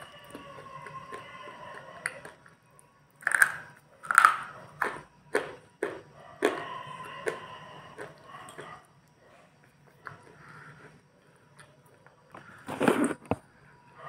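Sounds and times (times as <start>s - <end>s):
crunchy chewing: 0.0s - 13.5s.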